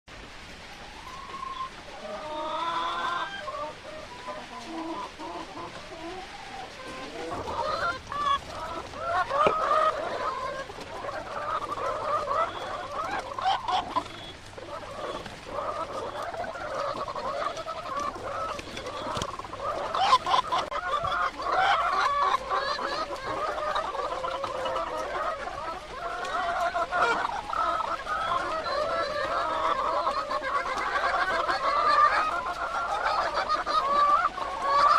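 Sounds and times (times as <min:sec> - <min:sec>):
hens clucking: 0:00.1 - 0:34.9.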